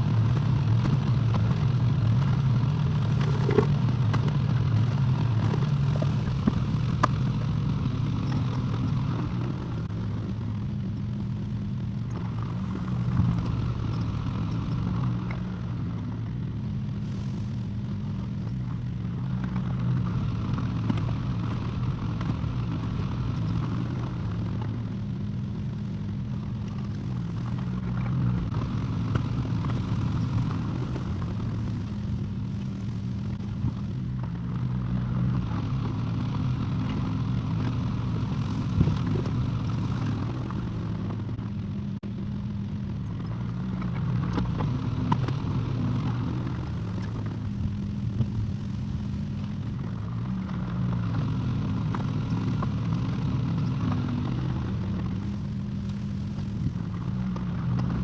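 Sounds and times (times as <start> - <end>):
excavator engine droning: 0.0 - 58.0.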